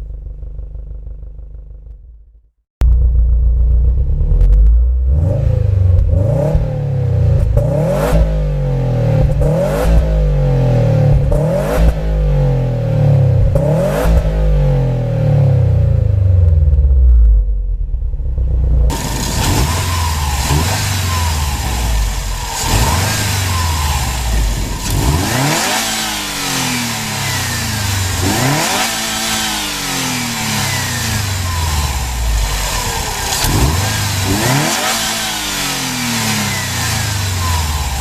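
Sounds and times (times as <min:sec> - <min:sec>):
car engine revving: 0:02.8 - 0:38.0.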